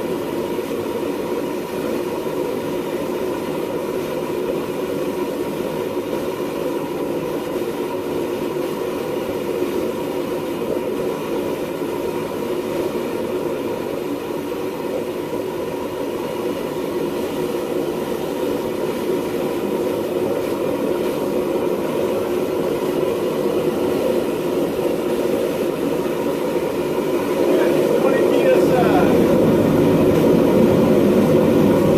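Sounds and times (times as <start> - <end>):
gas forge burners rushing: 0.0 - 31.9.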